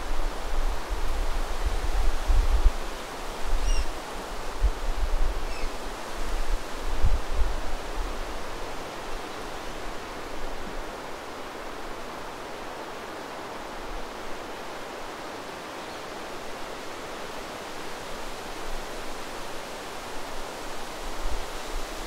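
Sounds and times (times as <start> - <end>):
steady wind hiss: 0.0 - 22.0.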